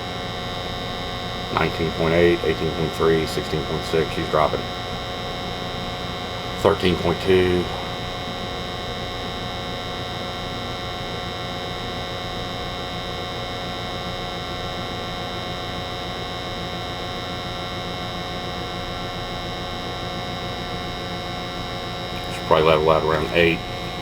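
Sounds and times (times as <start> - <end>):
gas furnace humming: 0.0 - 24.0.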